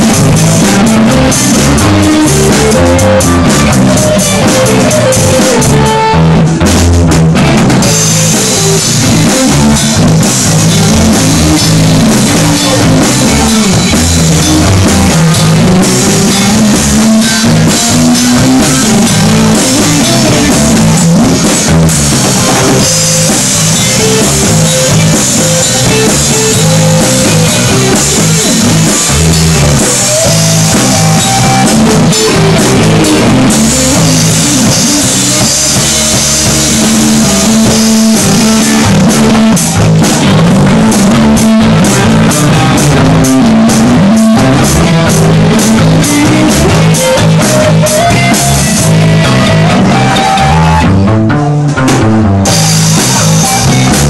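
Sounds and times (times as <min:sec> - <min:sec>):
drums and cymbals: 0:00.0 - 0:51.0, 0:51.8 - 0:54.0
bass guitar: 0:00.0 - 0:54.0
electric guitar: 0:00.0 - 0:54.0.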